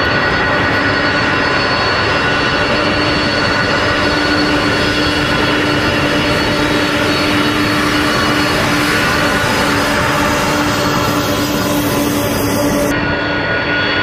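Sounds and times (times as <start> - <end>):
engine whining tones: 0.0 - 13.4
jet engines taxiing: 0.0 - 14.0.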